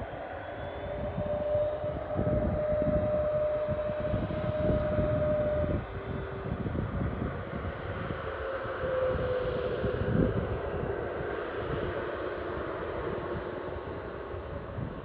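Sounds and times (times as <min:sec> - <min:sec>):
jet engine rumble: 0:00.0 - 0:15.0
jet engine whine: 0:00.0 - 0:15.0.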